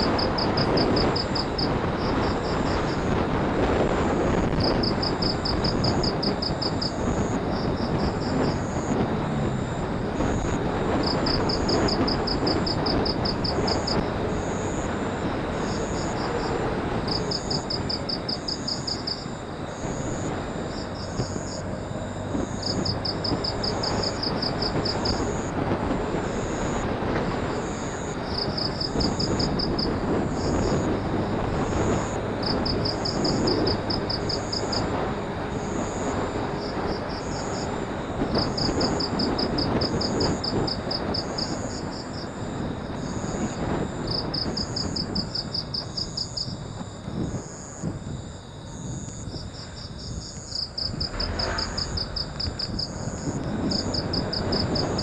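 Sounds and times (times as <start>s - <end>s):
motorcycle engine hum: 0.0s - 43.8s, 46.6s - 55.0s
road and wind noise: 0.0s - 55.0s.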